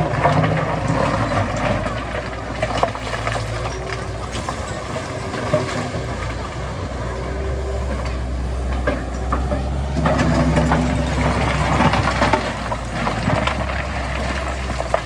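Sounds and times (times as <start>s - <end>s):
knocks and clanks: 0.0s - 6.5s, 7.9s - 15.0s
diesel machinery running: 0.0s - 15.0s.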